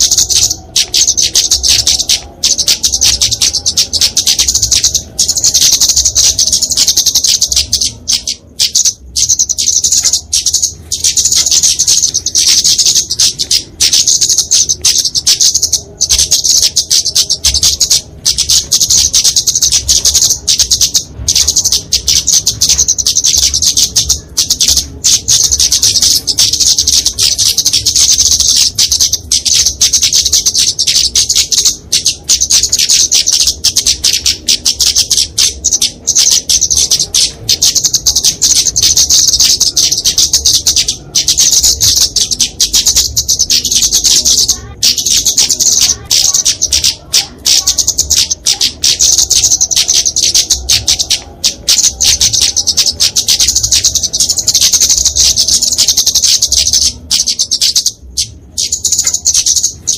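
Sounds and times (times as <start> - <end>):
rapid high-pitched bird chirping: 0.0 - 59.9.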